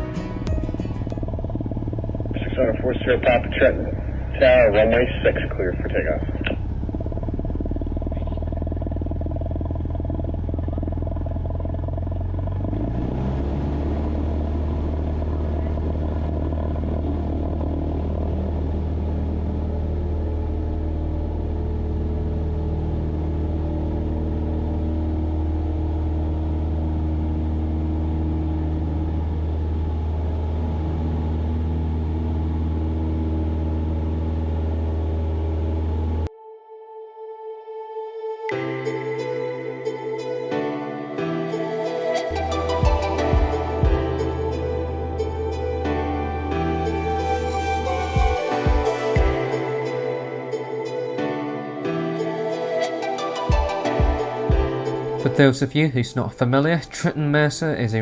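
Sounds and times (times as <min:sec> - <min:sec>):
plane engine and propeller: 0:00.0 - 0:36.3, 0:38.5 - 0:58.0.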